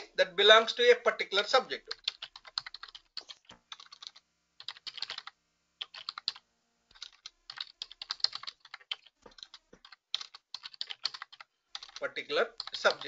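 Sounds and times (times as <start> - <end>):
computer keyboard typing: 1.9 - 12.0, 12.6 - 13.0.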